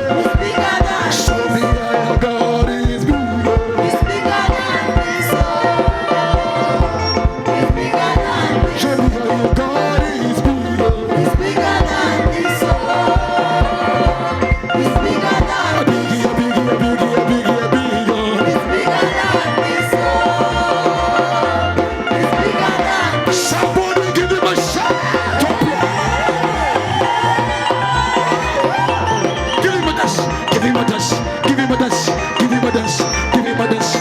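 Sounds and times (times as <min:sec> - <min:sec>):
fast drum beat: 0:00.0 - 0:34.0
upbeat worship music: 0:00.0 - 0:34.0.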